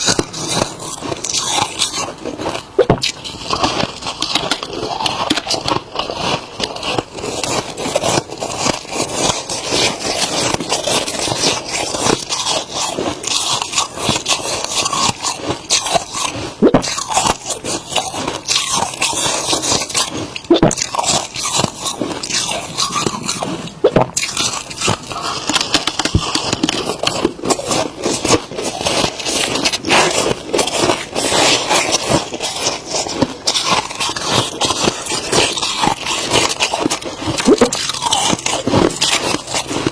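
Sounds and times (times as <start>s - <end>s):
frost crunching when chewed: 0.0s - 39.9s.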